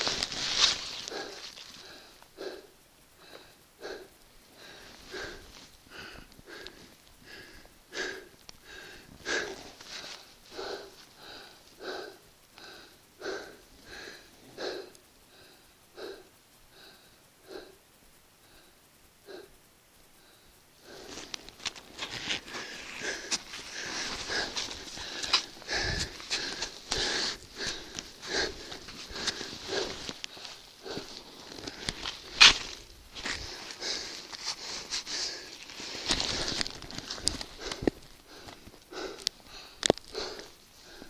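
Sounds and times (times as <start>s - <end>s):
person breathing hard: 0.0s - 41.0s.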